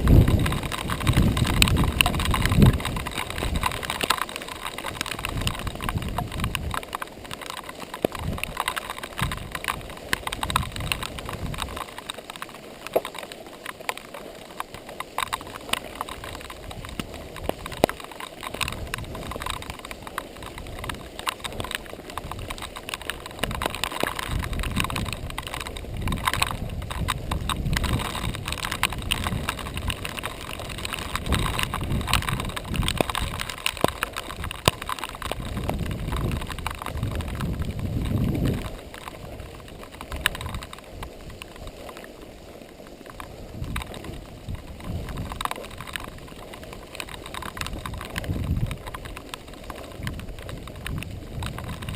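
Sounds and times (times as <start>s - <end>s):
bike rattling over rocks: 0.0s - 51.9s
wind rumbling on microphone: 0.0s - 51.9s.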